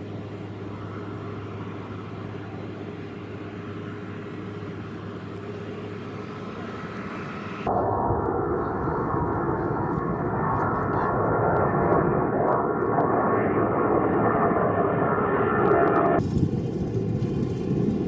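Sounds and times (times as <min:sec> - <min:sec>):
jet engines at climb power: 0:00.0 - 0:18.0
jet engines humming: 0:00.0 - 0:18.0.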